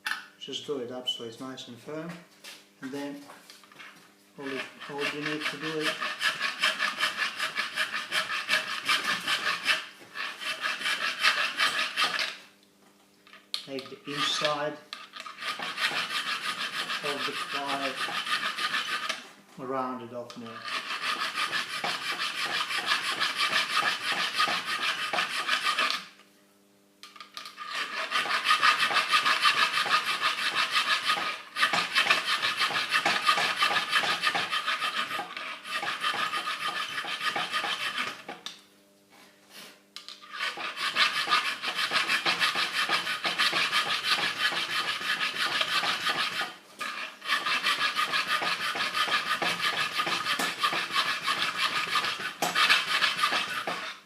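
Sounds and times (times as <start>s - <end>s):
file rasping on steel: 4.4s - 12.4s, 13.8s - 19.2s, 20.5s - 26.1s, 27.6s - 38.4s, 40.2s - 54.0s.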